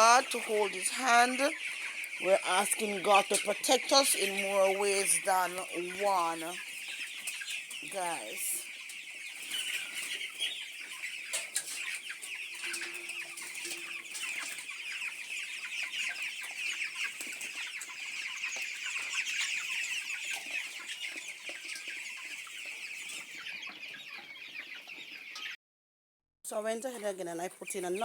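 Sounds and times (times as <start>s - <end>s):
chicks peeping: 0.0s - 25.6s, 26.6s - 28.0s.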